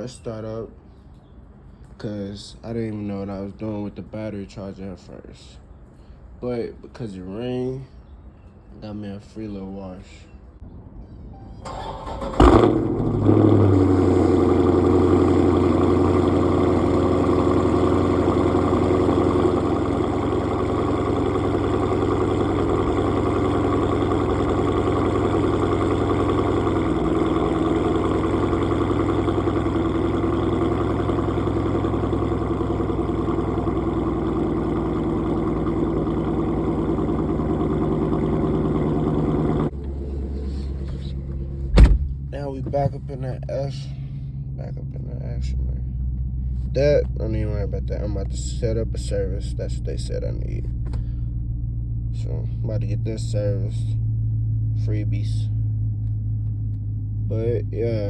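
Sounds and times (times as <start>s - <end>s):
car engine starting and idling: 11.3s - 58.0s.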